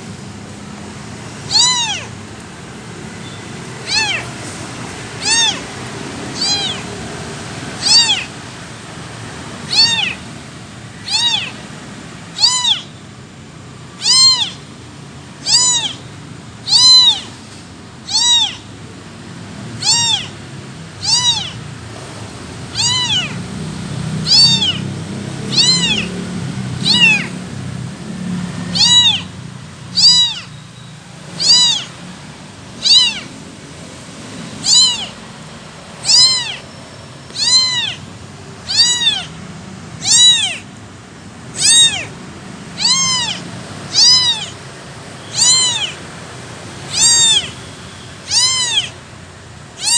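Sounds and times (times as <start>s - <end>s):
kitten meowing: 0.8s - 13.0s, 13.8s - 49.9s.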